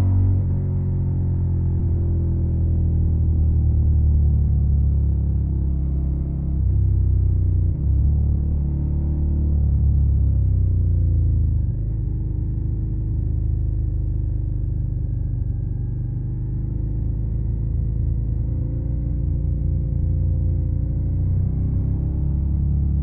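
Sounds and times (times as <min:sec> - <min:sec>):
motorcycle engine while riding: 0:00.0 - 0:23.0.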